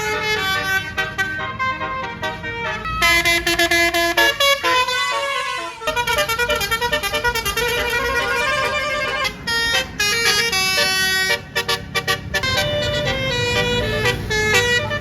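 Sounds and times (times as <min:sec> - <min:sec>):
bus horn trumpets playing melody: 0:00.0 - 0:15.0.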